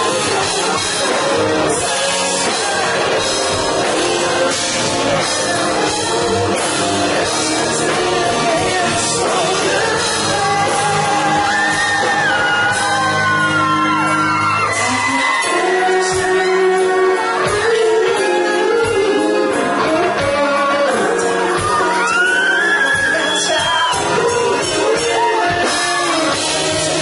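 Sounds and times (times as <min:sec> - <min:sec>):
live rock band playing: 0:00.0 - 0:27.0
person singing: 0:00.0 - 0:27.0.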